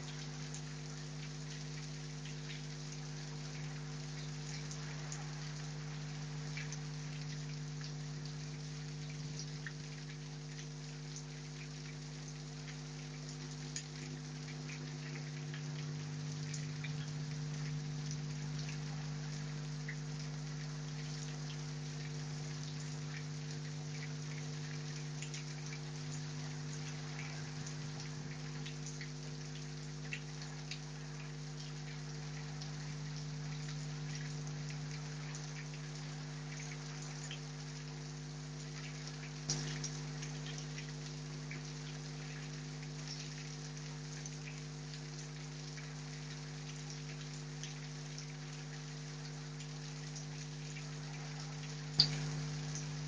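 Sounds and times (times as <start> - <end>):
raindrops ticking: 0.0 - 53.0.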